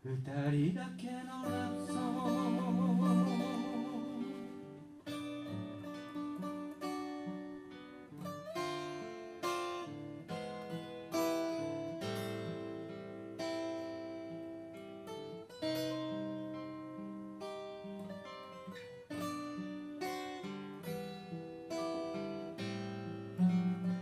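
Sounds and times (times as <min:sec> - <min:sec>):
acoustic guitar chords ringing: 0:00.0 - 0:24.0.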